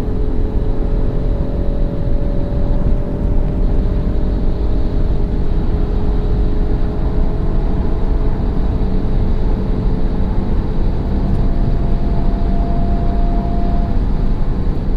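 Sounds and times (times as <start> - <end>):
car engine hum: 0.0 - 14.9
road noise: 0.0 - 14.9.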